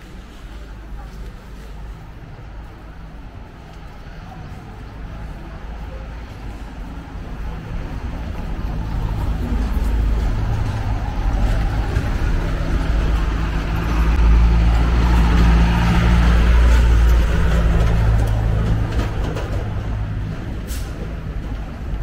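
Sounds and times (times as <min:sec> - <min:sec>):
diesel truck engine hum: 0:00.0 - 0:22.0.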